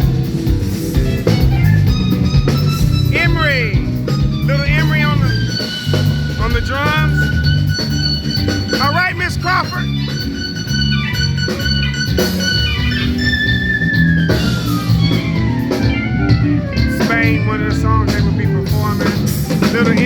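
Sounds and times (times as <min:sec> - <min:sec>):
live band playing: 0:00.0 - 0:20.0
high note sliding down: 0:01.1 - 0:18.8.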